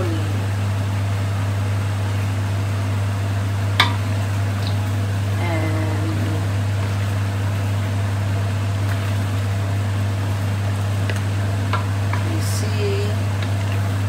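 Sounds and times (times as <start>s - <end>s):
food simmering in a wok: 0.0s - 14.0s
steady low hum: 0.0s - 14.0s.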